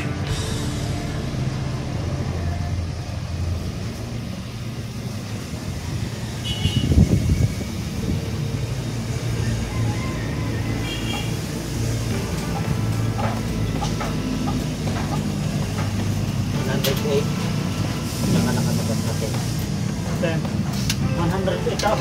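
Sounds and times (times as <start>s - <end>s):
motor vehicles rumbling: 0.0s - 22.0s
road traffic noise: 0.0s - 22.0s.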